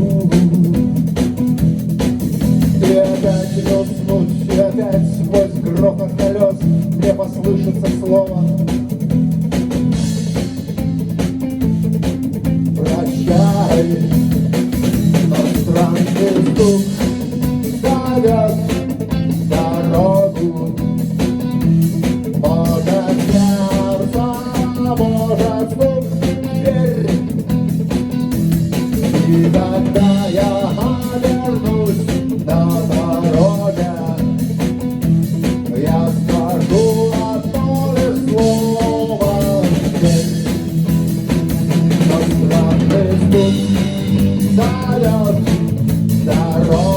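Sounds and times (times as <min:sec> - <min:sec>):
melodic lead guitar line: 0:00.0 - 0:46.9
rock band playing live: 0:00.0 - 0:46.9.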